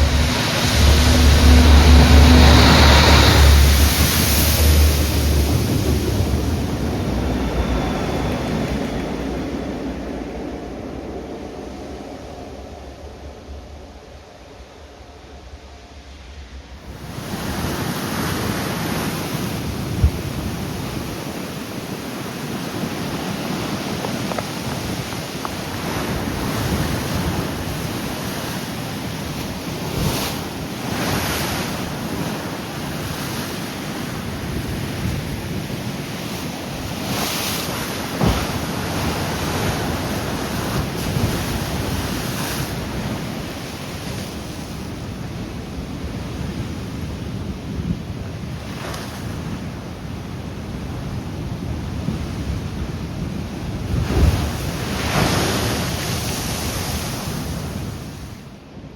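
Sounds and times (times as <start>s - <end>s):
wind buffeting microphone: 0.0s - 58.5s
sea surf breaking: 0.0s - 58.7s.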